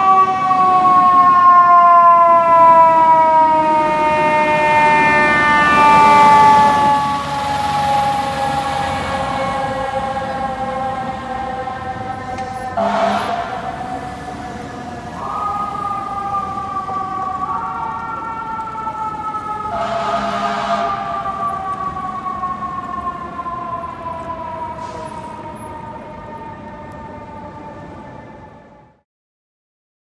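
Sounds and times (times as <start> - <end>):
fire engine siren: 0.0 - 29.0.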